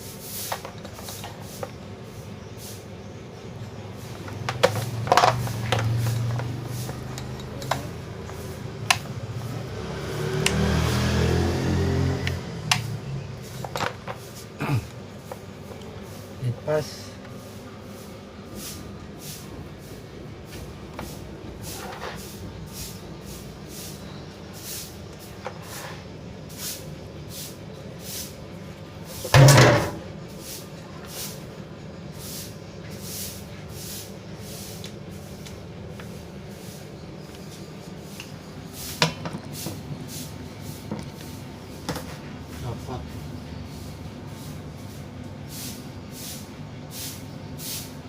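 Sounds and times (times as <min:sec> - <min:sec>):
fan humming: 0:00.0 - 0:48.0.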